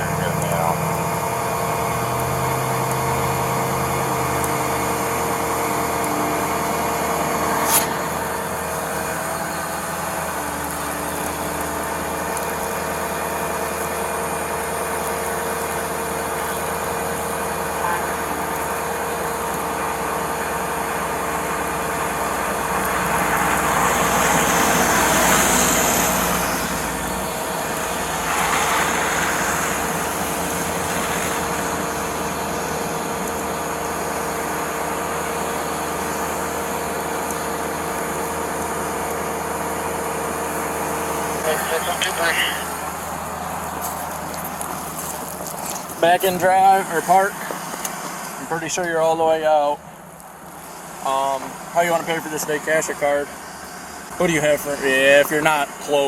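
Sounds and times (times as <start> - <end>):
truck engine idling with whine: 0.0 - 56.0.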